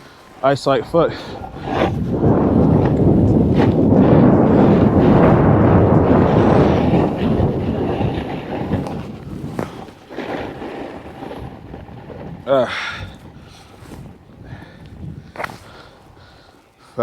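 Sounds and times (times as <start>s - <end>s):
snowboard edge scraping icy snow: 0.0s - 14.2s.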